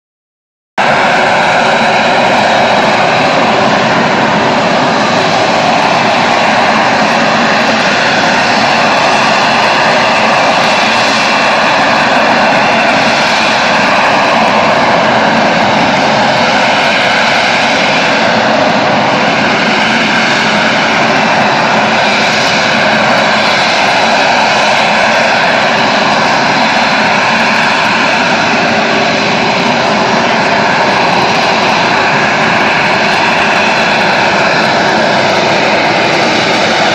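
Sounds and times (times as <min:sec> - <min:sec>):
jet engine roar with whine: 0:00.8 - 0:36.9.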